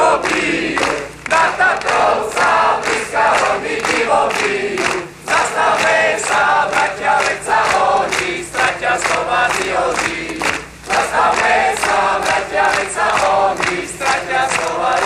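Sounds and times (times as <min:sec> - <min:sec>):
crowd chanting: 0:00.0 - 0:15.0
hands clapping: 0:00.0 - 0:15.0.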